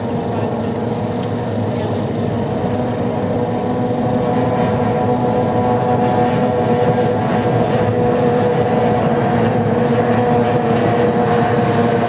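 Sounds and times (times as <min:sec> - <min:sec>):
racing boat engine running flat out: 0:00.0 - 0:12.0.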